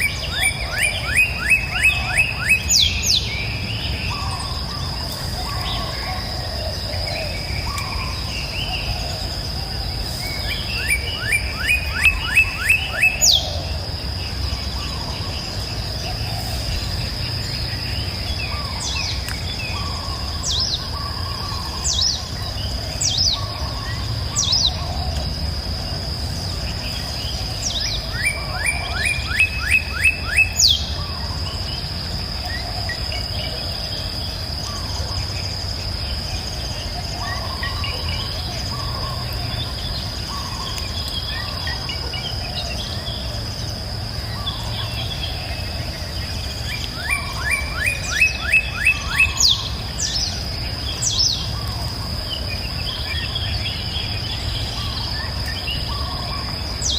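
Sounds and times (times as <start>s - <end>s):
birds singing: 0.0s - 56.9s
high insect trill: 0.0s - 56.9s.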